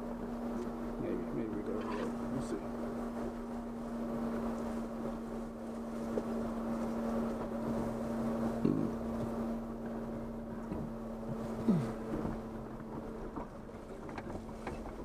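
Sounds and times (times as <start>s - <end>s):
vehicle engine running low speed: 0.0s - 15.0s.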